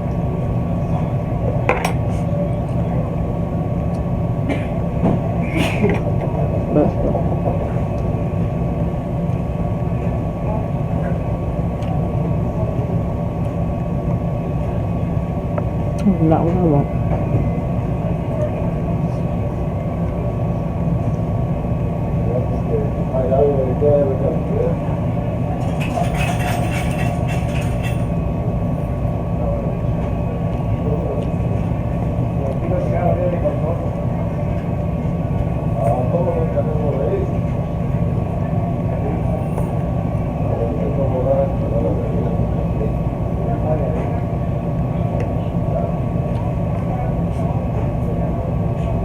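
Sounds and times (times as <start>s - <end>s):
laundry machines droning: 0.0s - 49.0s.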